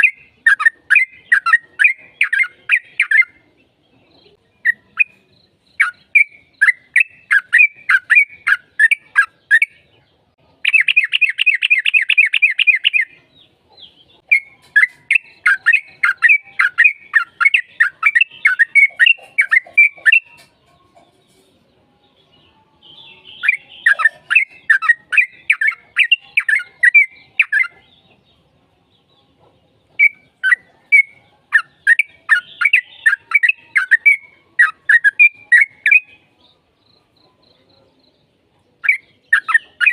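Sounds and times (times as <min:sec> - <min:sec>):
bird chattering song: 0:00.0 - 0:21.7, 0:22.3 - 0:39.9.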